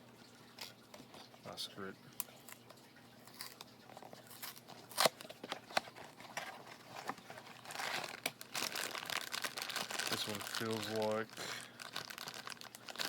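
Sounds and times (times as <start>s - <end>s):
packaging crinkling rustle: 2.2s - 13.0s.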